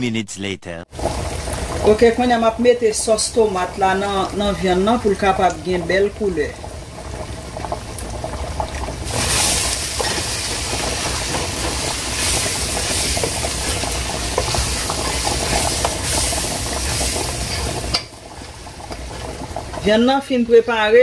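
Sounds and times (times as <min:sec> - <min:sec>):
meat sizzling in a pot: 0:01.0 - 0:21.0.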